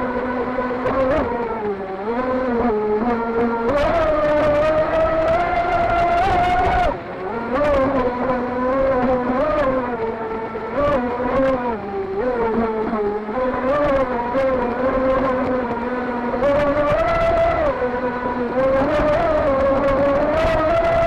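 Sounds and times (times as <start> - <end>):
electric boat motor whining: 0.0 - 21.0.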